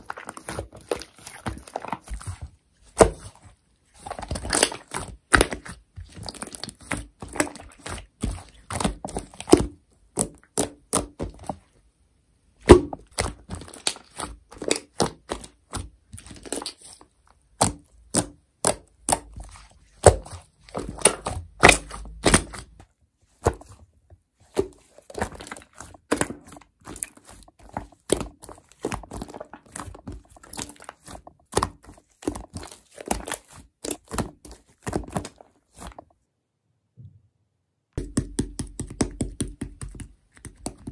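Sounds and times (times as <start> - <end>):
slime squelching and popping: 0.0 - 11.6, 12.6 - 22.8, 24.4 - 36.1, 38.0 - 40.9.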